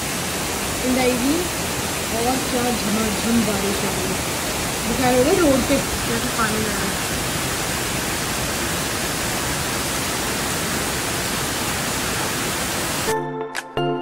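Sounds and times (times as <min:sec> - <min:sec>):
heavy rain pouring: 0:00.0 - 0:13.2.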